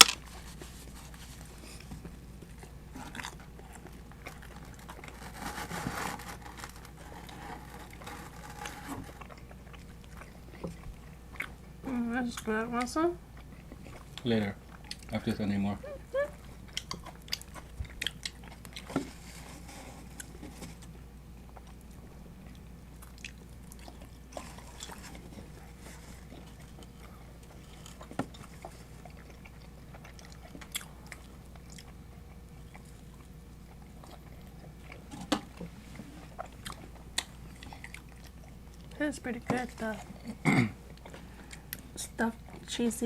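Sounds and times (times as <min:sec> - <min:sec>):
person chewing crunchy bread: 0:00.0 - 0:11.8, 0:13.2 - 0:15.4, 0:16.3 - 0:39.0, 0:39.6 - 0:42.7
low steady hum: 0:00.0 - 0:43.0.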